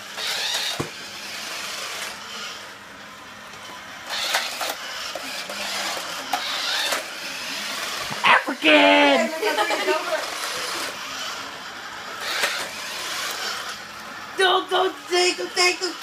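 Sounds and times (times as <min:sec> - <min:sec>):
toy car electric motors whirring: 0:00.0 - 0:16.0.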